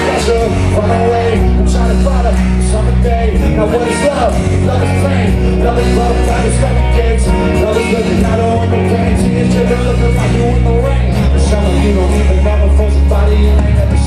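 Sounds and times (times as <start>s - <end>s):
live rock music with singing: 0.0s - 14.0s.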